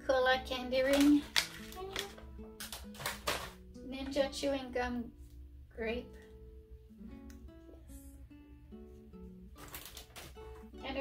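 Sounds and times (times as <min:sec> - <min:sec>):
plucked-string background music: 0:00.0 - 0:11.0.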